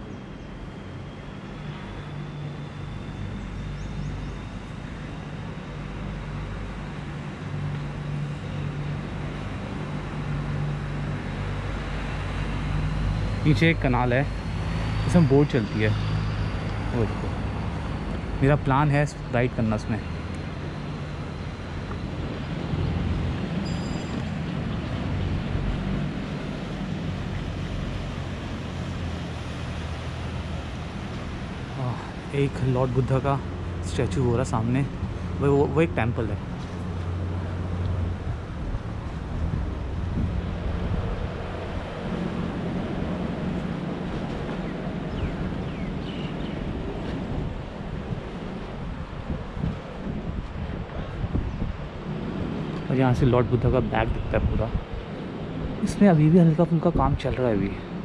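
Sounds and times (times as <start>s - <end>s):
faint high whine: 0.0s - 50.3s
boat engine drone: 0.0s - 58.0s
distant traffic hum: 0.0s - 58.0s
wind rumbling on microphone: 2.8s - 58.0s.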